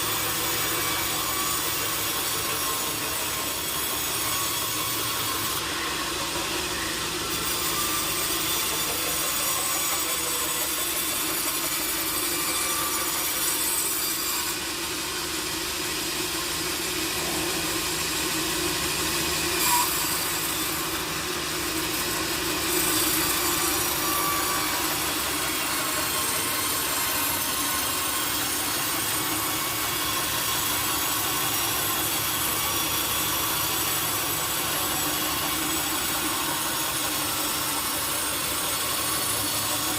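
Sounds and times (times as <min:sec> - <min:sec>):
saw cutting wood: 0:00.0 - 0:39.9.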